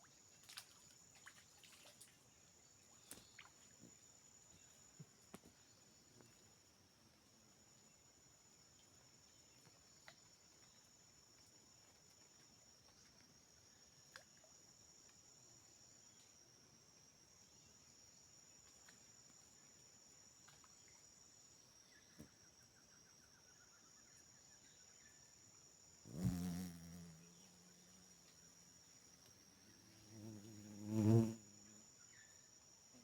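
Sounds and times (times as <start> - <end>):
crickets and insects chirping: 0.0 - 33.0.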